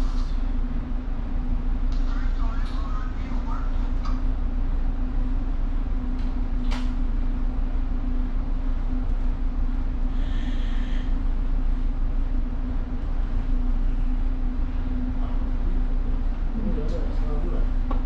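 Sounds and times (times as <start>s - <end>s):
ship engine humming: 0.0s - 18.0s.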